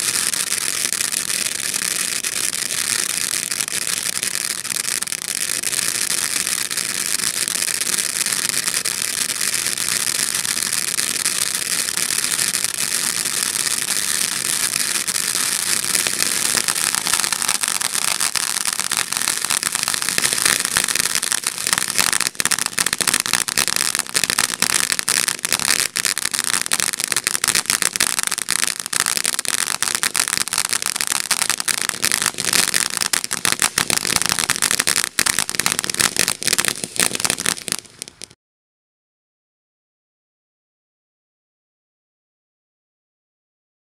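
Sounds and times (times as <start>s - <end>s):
firework crackling: 0.0s - 38.4s
firework fountain hissing: 0.0s - 38.4s.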